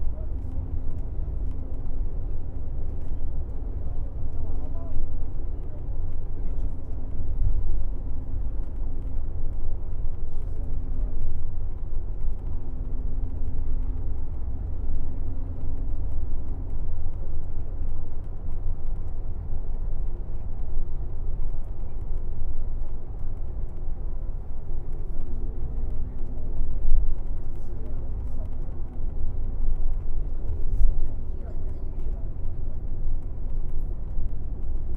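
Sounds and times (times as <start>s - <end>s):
coach engine drone: 0.0s - 34.9s
road rumble: 0.0s - 34.9s.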